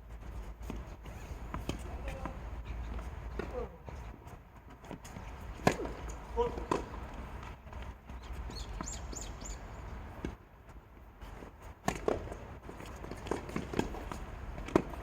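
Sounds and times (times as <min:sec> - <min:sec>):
footsteps on tennis court: 0:00.0 - 0:15.0.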